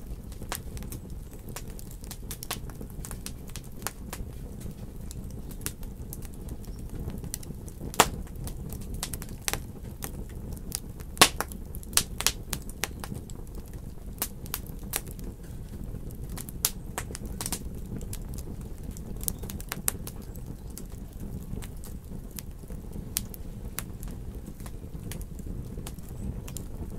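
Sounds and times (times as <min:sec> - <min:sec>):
sharp pops and snaps of fire: 0:00.0 - 0:26.9
wood fire crackling: 0:00.0 - 0:26.9.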